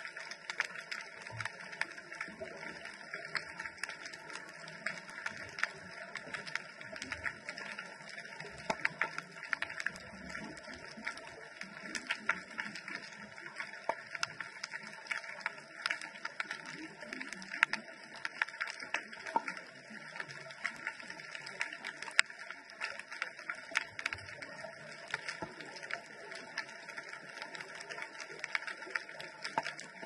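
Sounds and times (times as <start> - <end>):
underwater crackle of clicks: 0.0 - 30.0.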